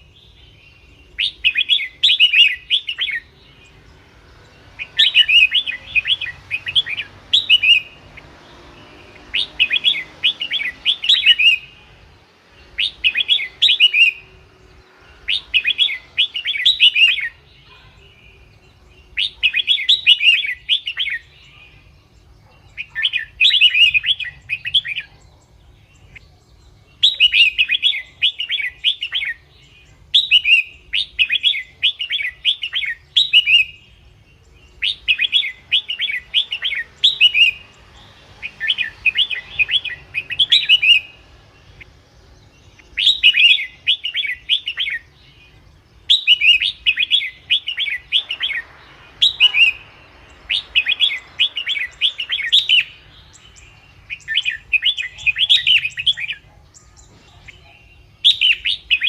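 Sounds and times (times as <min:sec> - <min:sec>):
bulbul singing warbled phrases: 0:00.0 - 0:59.0.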